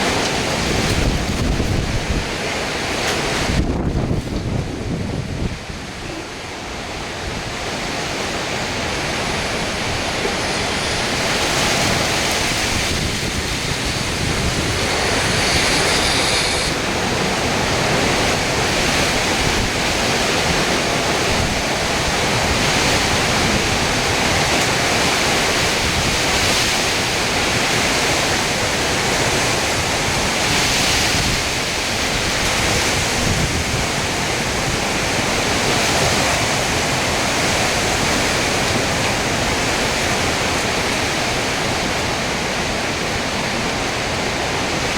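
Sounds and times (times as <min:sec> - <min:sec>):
heavy rain: 0:00.0 - 0:44.9
hurricane wind: 0:00.0 - 0:44.9.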